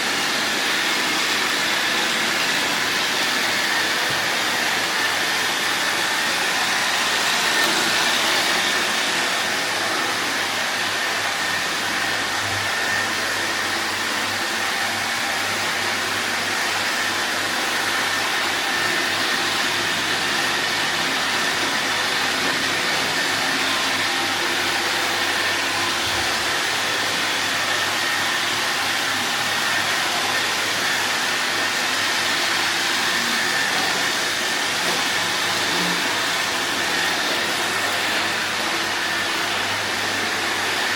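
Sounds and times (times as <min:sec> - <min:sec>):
robot vacuum cleaner whirring: 0:00.0 - 0:40.9.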